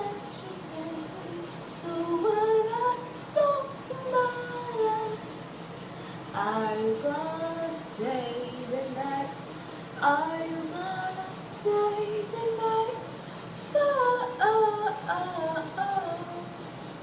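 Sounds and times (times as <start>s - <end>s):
girl singing unaccompanied: 0.0s - 5.4s, 6.4s - 9.4s, 10.0s - 16.6s.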